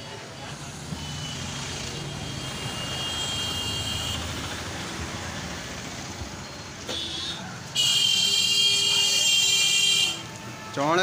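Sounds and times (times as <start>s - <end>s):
market background noise: 0.0s - 11.0s.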